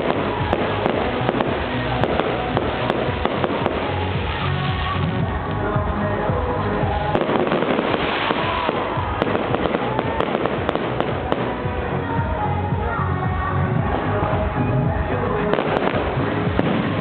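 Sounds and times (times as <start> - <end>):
fireworks crackling and popping: 0.0 - 12.9, 13.6 - 17.0
music playing: 0.0 - 17.0.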